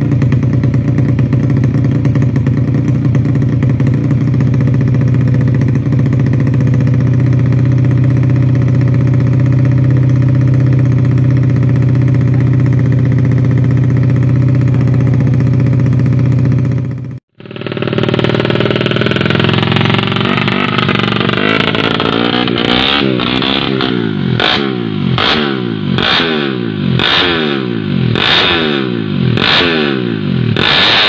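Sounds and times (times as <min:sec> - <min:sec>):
motorcycle engine running loud: 0:00.0 - 0:31.0.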